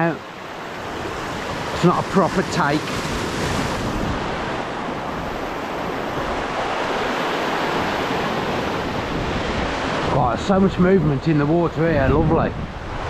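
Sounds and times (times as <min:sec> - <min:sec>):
sea surf breaking on rocks: 0:00.0 - 0:13.0.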